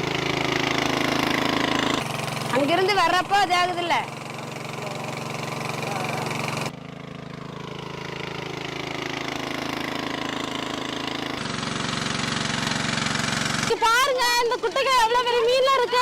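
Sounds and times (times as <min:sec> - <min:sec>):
petrol water pump running: 0:00.0 - 0:16.0.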